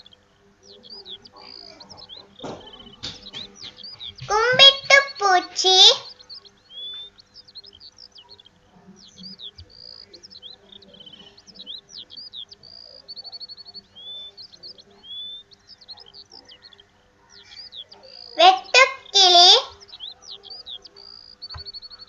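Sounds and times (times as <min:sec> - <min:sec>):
bird trills: 0:00.0 - 0:22.0
small birds chirping: 0:00.0 - 0:22.0.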